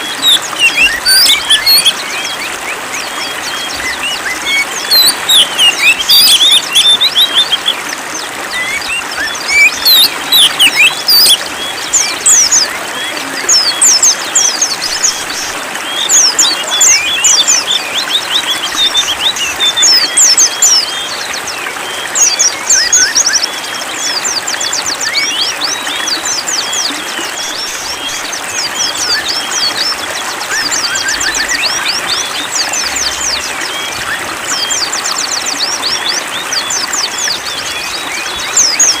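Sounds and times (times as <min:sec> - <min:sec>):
running water: 0:00.0 - 0:39.0
songbirds chirping: 0:00.0 - 0:39.0.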